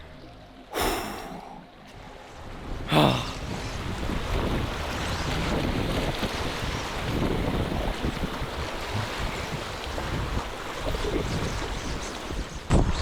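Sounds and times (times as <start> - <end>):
waves washing: 0.7 - 12.7
wind buffeting microphone: 2.5 - 13.0.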